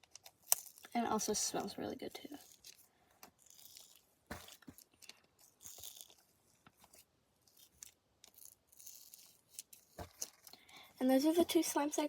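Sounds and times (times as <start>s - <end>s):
slime crackling and squishing: 0.0s - 10.5s.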